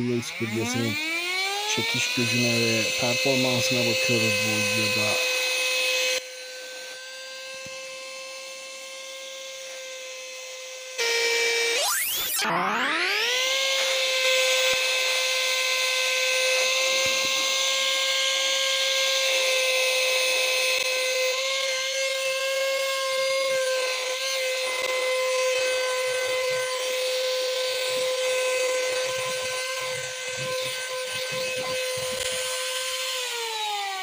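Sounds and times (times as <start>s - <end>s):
vacuum cleaner whine: 0.0s - 34.0s.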